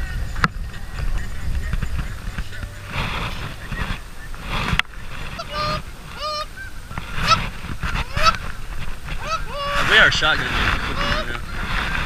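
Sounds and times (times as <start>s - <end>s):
geese honking: 1.0s - 12.0s.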